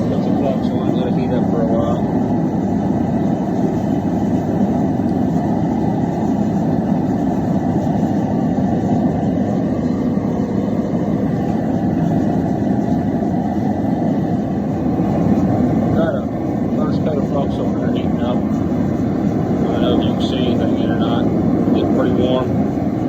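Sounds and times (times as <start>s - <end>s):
propane forge burner roaring: 0.0s - 23.0s.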